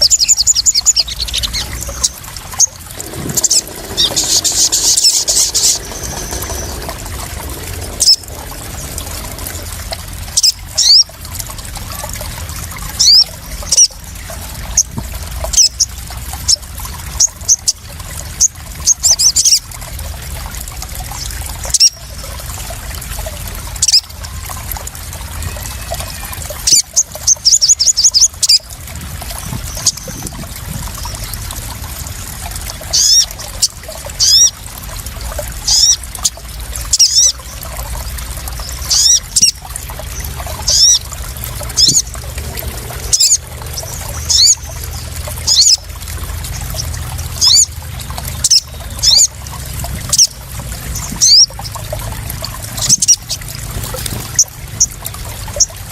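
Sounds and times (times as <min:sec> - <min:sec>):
water trickling and splashing: 0:00.0 - 0:55.9.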